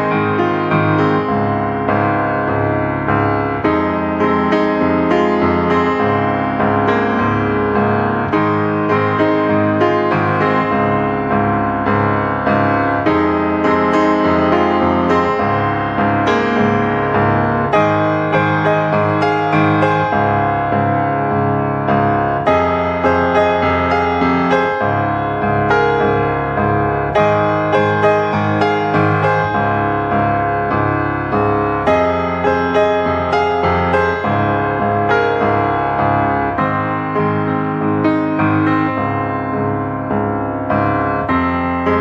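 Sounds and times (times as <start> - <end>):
background piano music: 0.0 - 42.0.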